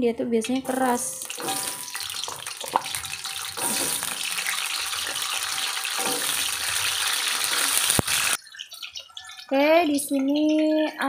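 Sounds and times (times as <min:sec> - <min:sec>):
food sizzling in oil: 0:00.4 - 0:10.6.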